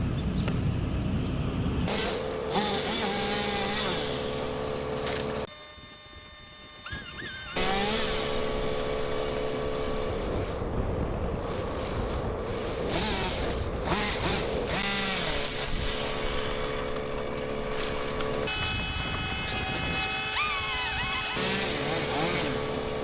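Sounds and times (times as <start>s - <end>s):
machinery engine revving: 1.8s - 5.5s, 7.4s - 23.0s.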